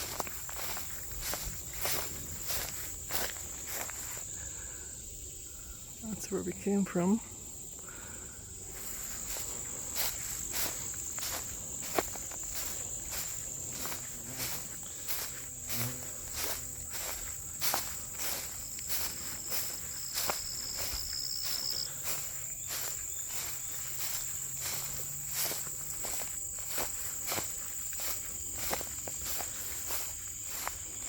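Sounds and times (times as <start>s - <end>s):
footsteps: 0.0s - 4.2s, 8.6s - 31.0s
high insect chorus: 0.0s - 31.0s.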